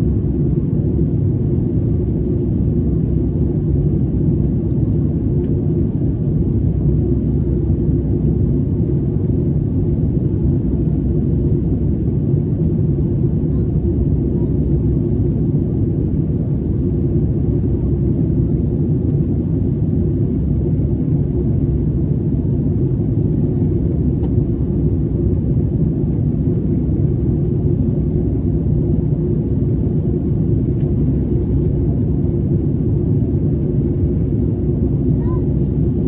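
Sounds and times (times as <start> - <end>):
jet engines rumbling in cabin: 0.0 - 36.0.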